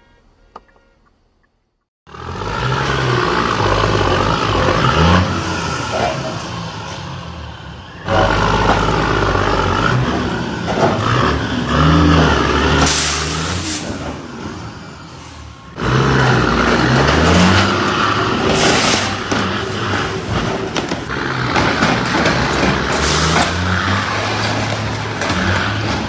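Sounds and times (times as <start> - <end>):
vehicle engines running: 2.1 - 26.0.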